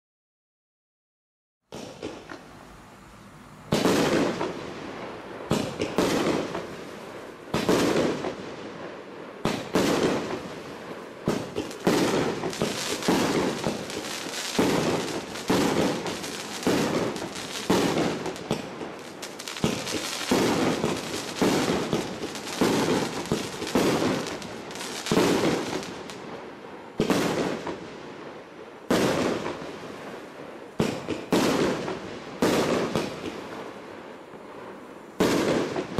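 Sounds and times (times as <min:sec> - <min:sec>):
fireworks bangs: 0:01.7 - 0:35.9.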